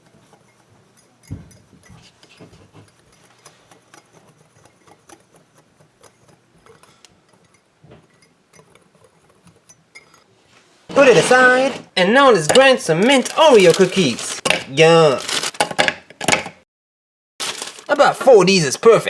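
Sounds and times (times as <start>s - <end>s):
spoon stirring dry ingredients: 0.0s - 15.8s.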